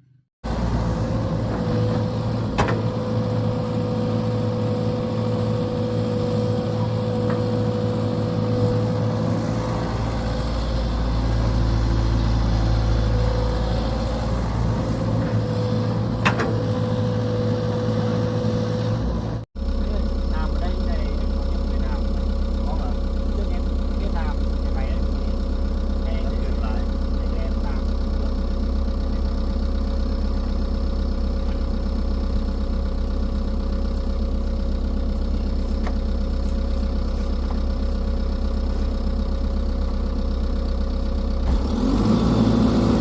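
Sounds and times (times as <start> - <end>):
excavator diesel engine running: 0.4 - 43.0.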